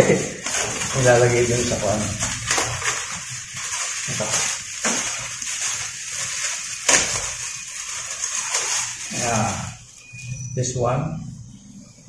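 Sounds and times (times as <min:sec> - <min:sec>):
sharp plastic crackle: 0:00.0 - 0:10.1
plastic bag rustling: 0:00.0 - 0:10.3.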